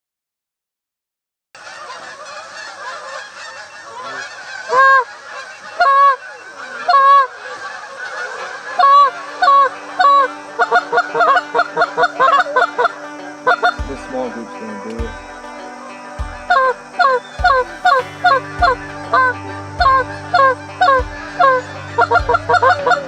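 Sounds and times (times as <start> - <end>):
flock chatter: 1.6 - 23.0
geese honking: 1.6 - 23.0.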